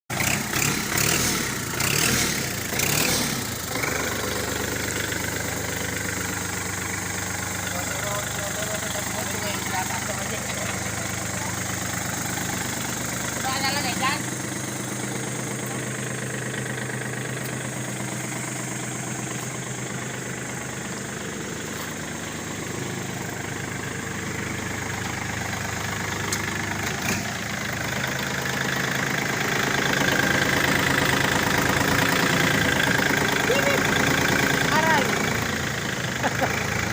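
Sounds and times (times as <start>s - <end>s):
tractor diesel engine idling: 0.1s - 36.9s.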